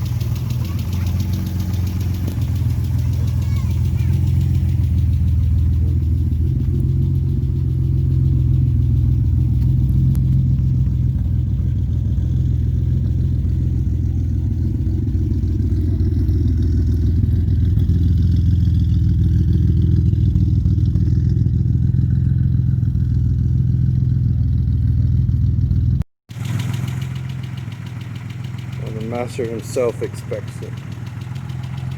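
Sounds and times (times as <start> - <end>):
car engine low drone: 0.0 - 31.9.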